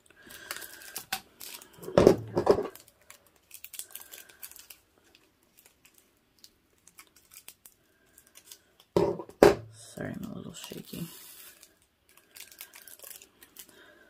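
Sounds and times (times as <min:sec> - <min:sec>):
plastic packet crinkling: 0:00.0 - 0:09.0, 0:10.0 - 0:14.0.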